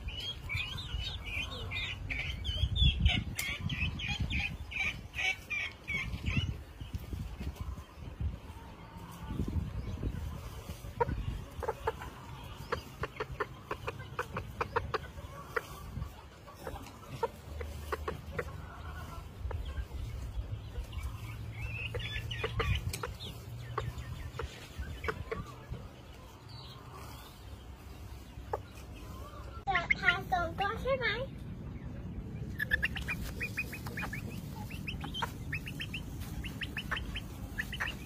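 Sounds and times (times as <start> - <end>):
chickens clucking: 0.0 - 38.0.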